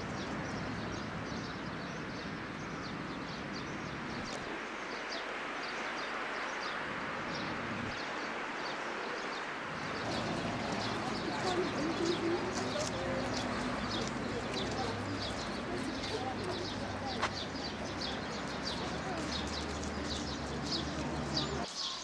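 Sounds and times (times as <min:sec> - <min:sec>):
small birds chirping: 0:00.0 - 0:22.0
steady outdoor hiss: 0:00.0 - 0:22.0.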